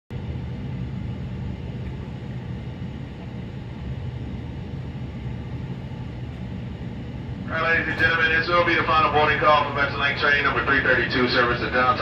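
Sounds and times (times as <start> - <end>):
train idling low rumble: 0.1 - 12.0.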